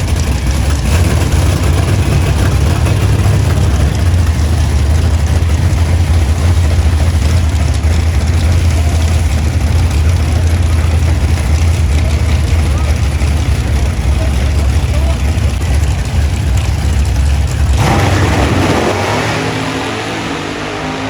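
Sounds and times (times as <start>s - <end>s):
vehicle engines rumbling: 0.0s - 21.0s.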